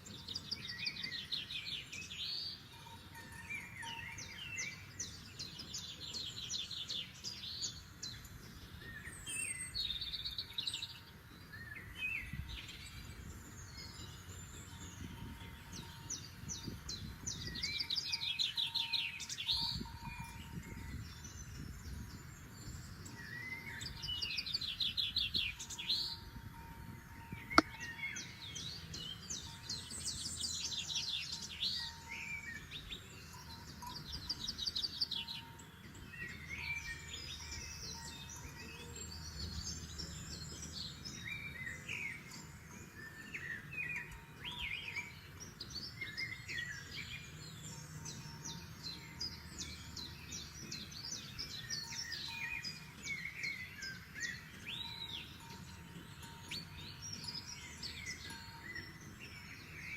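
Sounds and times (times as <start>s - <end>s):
songbirds trilling: 0.0s - 59.9s.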